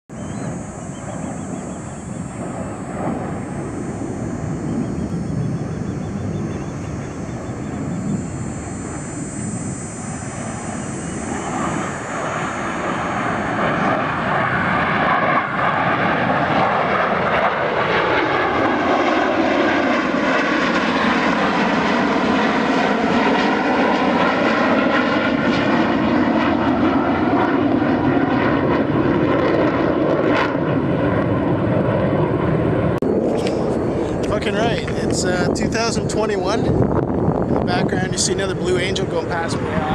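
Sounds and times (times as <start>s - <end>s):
jets flying past: 0.1s - 39.9s.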